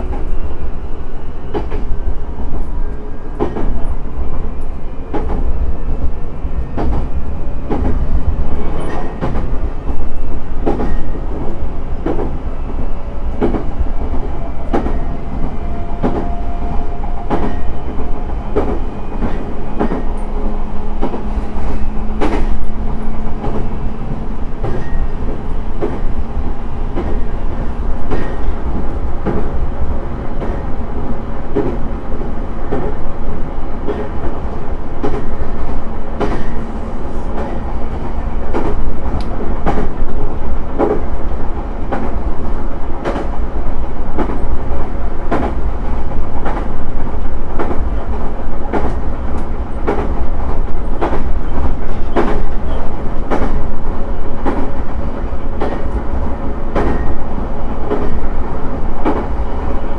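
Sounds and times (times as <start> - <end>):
train rolling rumble: 0.0 - 59.9.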